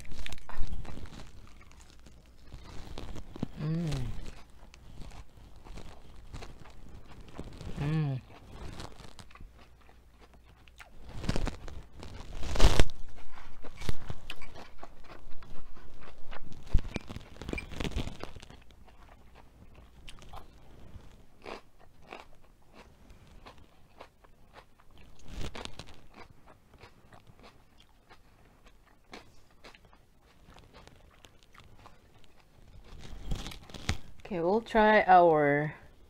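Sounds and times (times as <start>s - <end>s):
crunching raw pepper strips: 0.0s - 34.3s.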